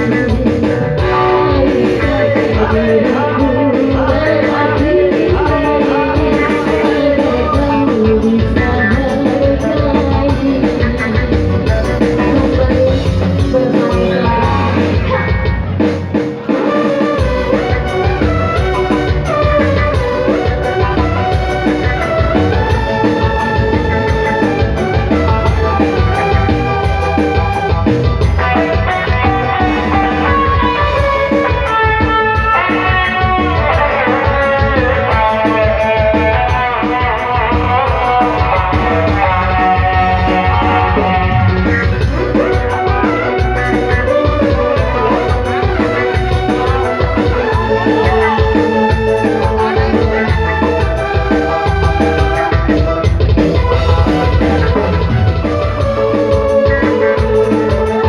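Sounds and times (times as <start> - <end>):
bass and drums: 0.0 - 58.0
dangdut band music: 0.0 - 58.0
plucked guitar melody: 0.0 - 58.0.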